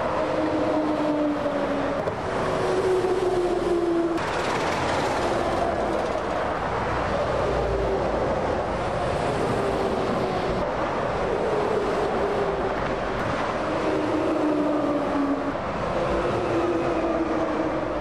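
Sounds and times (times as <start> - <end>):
lorries passing at speed: 0.0 - 18.0.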